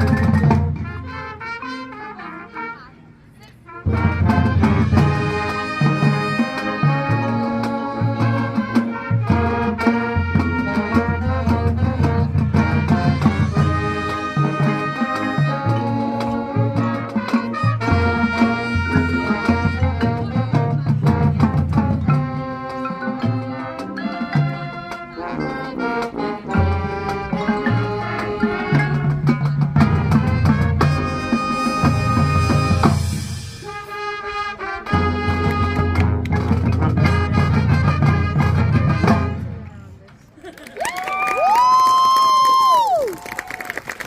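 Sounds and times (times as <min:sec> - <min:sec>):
marching band playing: 0:00.0 - 0:40.6.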